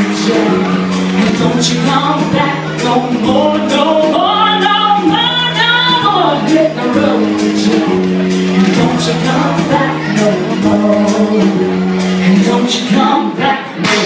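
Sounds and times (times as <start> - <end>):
electronic bass line: 0.0 - 14.0
synth chords: 0.0 - 14.0
woman singing: 0.0 - 14.0.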